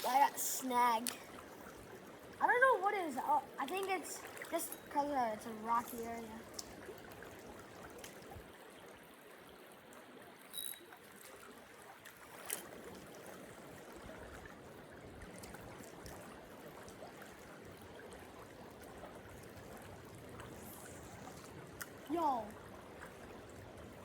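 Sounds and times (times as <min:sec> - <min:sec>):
creek trickling and burbling: 0:00.0 - 0:24.0.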